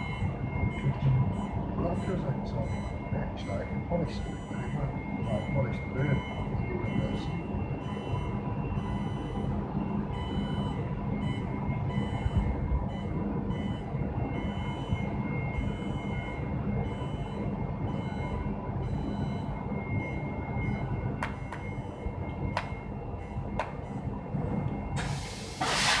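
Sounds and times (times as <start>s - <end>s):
high machine whines: 0.0s - 26.0s
laser cutting machine hum: 0.0s - 26.0s.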